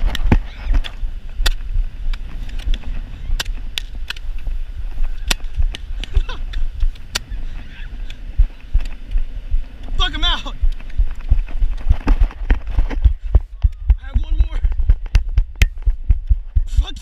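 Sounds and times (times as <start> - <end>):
low rumble on microphone: 0.0 - 17.0.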